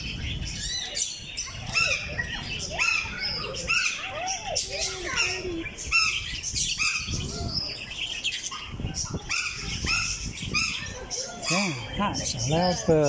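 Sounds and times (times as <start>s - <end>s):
birds calling and chirping: 0.0s - 13.0s.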